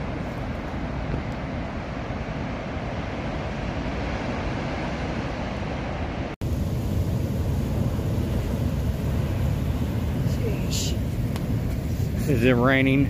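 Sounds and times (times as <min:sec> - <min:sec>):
surf breaking on a beach: 0:00.0 - 0:13.0
wind buffeting microphone: 0:00.0 - 0:13.0.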